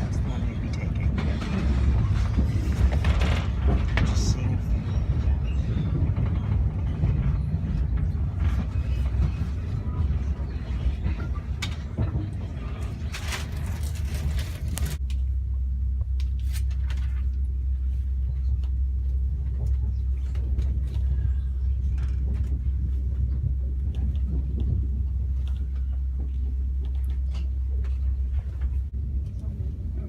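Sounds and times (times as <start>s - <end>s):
rattling and clatter: 0.0s - 15.0s, 19.3s - 30.0s
steady low hum: 0.0s - 30.0s
train rumbling: 0.0s - 30.0s.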